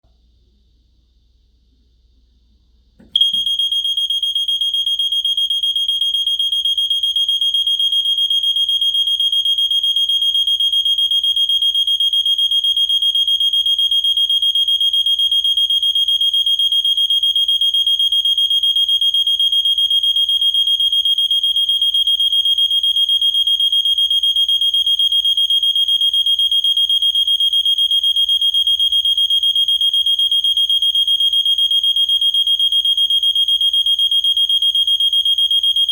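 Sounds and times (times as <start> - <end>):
high-pitched fire alarm horn: 3.2 - 35.9.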